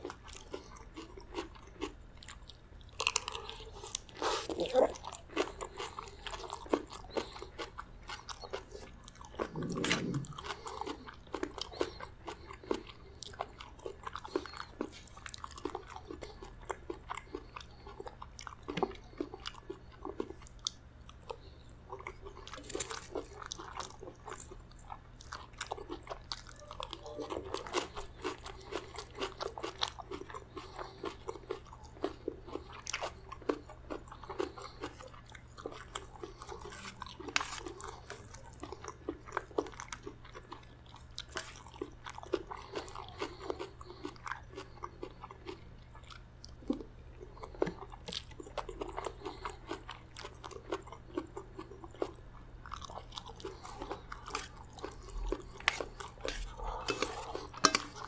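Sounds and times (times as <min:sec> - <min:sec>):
chewing and crunching: 0:00.0 - 0:58.0.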